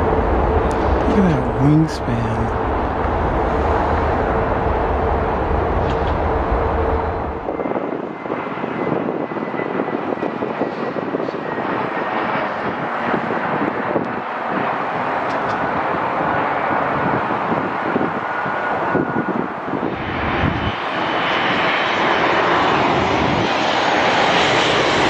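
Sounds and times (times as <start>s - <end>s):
jet engine high whine: 0.0s - 25.0s
jet engines deep rumble: 0.0s - 25.0s.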